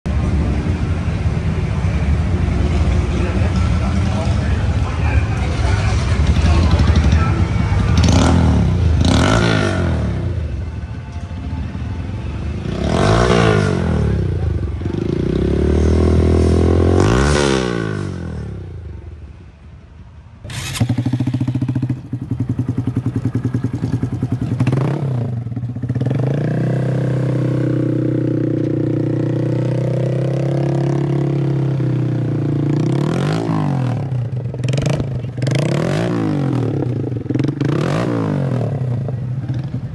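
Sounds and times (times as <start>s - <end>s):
motorcycle engine idling and blipped: 0.1s - 39.9s
motorcycle engine revving: 3.0s - 10.8s, 12.6s - 19.0s, 20.5s - 39.9s.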